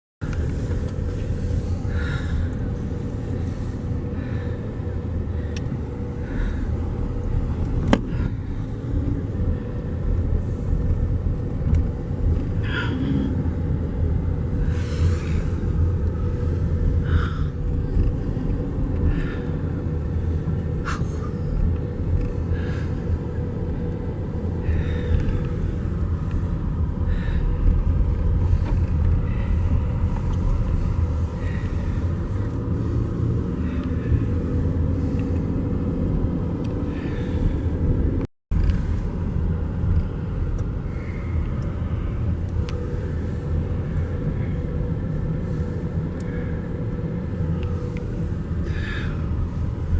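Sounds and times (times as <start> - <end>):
vehicle road rumble: 0.2 - 49.9.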